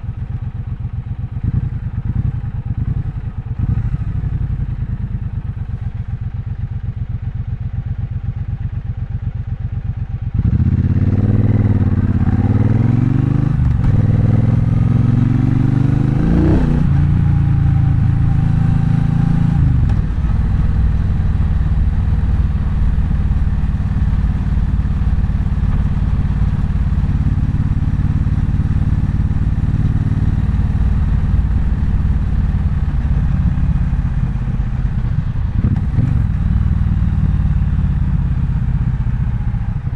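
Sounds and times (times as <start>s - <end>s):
motorcycle engine accelerating: 0.0s - 9.0s, 9.6s - 39.9s.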